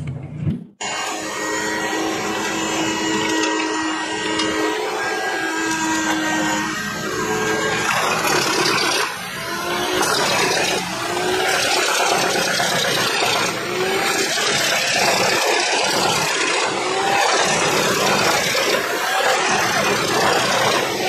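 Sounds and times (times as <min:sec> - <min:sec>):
wood chipper running: 0:00.8 - 0:21.0.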